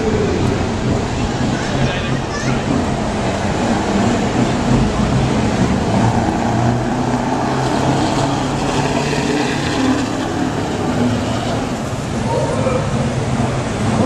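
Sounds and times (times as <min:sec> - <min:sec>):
truck engine driving past: 0:00.0 - 0:14.0.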